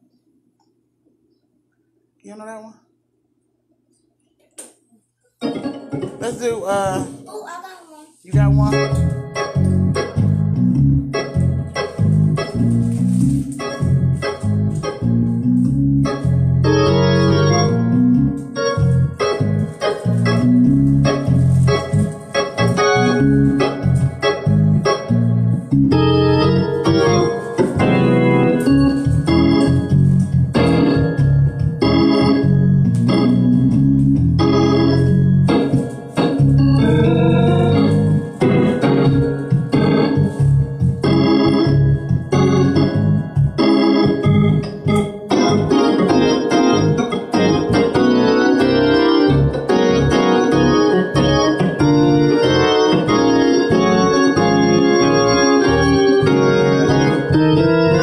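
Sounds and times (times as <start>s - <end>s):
organ chords: 3.0s - 7.2s, 8.3s - 58.0s.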